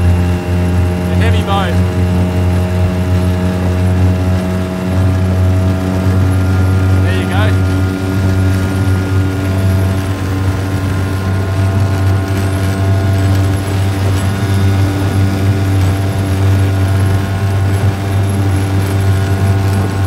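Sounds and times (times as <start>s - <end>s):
outboard motor at full throttle: 0.0s - 20.0s.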